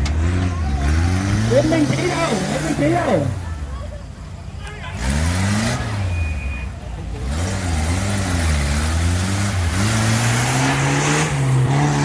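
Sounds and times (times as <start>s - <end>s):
vehicle engine revving: 0.0s - 3.5s, 4.9s - 12.0s.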